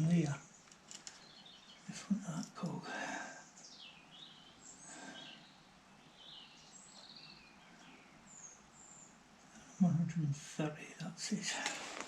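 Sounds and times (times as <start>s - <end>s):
faint bird chirps: 0.0s - 10.1s.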